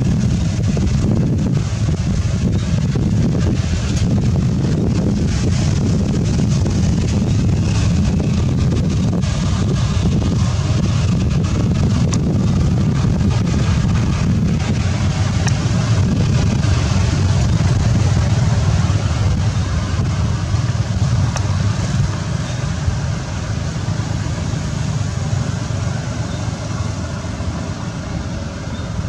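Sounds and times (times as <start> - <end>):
hiss: 0.0 - 29.0
low background rumble: 0.0 - 29.0.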